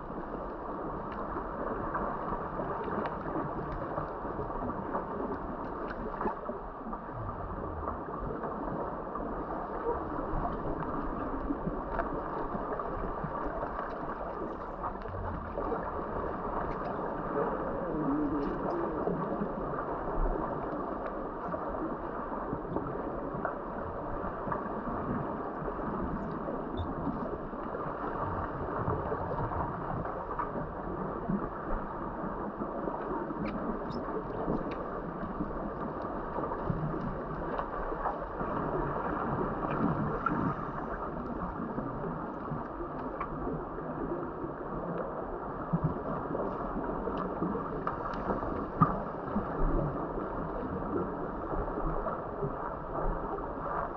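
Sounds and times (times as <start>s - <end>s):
muffled underwater rush: 0.0s - 53.9s.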